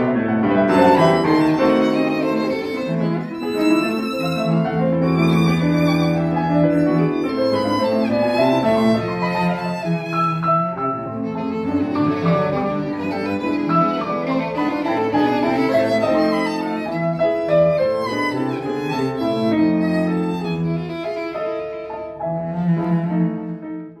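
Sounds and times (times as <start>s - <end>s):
cello: 0.0s - 24.0s
piano: 0.0s - 24.0s
violin: 0.0s - 24.0s.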